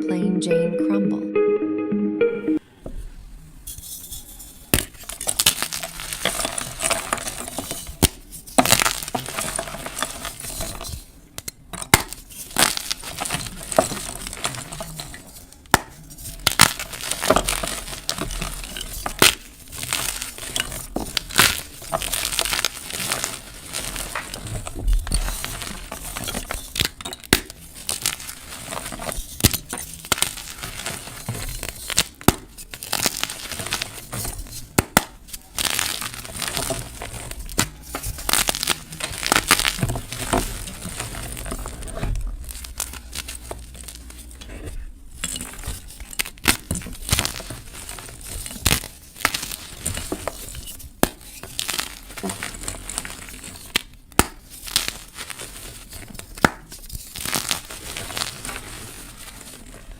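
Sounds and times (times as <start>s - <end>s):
chalk block crunching by hand: 4.6s - 44.2s, 45.2s - 59.8s.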